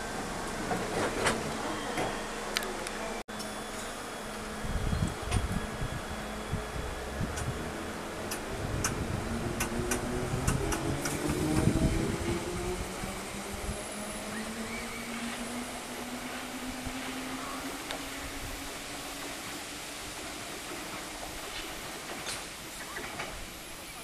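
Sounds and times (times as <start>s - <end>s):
underground train motors whining: 0.0s - 24.0s.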